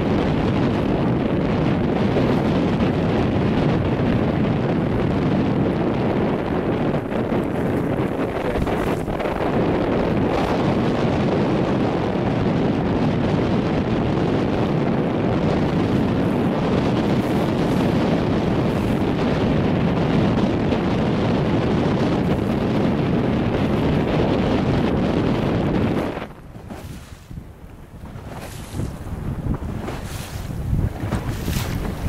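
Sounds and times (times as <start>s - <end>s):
choppy water: 0.0s - 32.0s
strong wind buffeting microphone: 0.0s - 32.0s.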